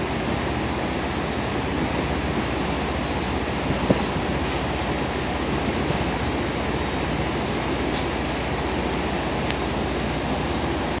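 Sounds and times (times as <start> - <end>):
machinery rushing noise: 0.0 - 11.0.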